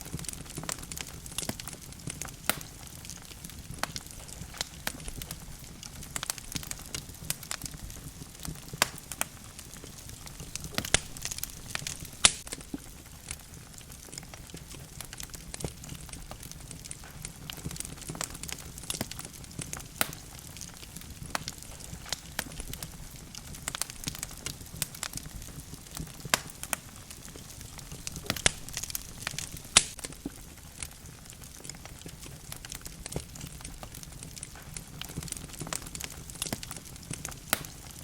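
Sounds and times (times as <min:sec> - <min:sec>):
logs crackling and popping: 0:00.0 - 0:38.0
low rumble of fire: 0:00.0 - 0:38.0.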